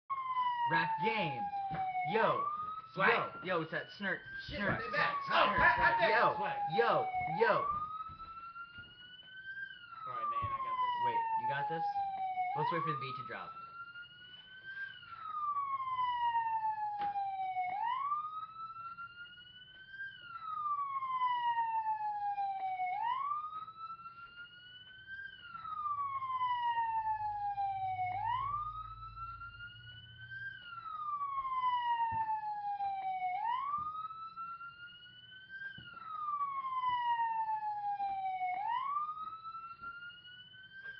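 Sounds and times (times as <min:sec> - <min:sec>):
siren wailing: 0:00.0 - 0:40.9.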